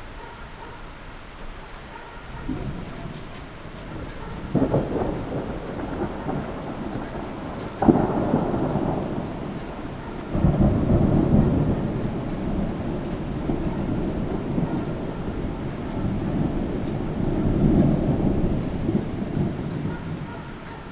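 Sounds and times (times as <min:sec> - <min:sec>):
steady rain: 0:00.0 - 0:20.9
thunder rumbling: 0:02.2 - 0:20.9.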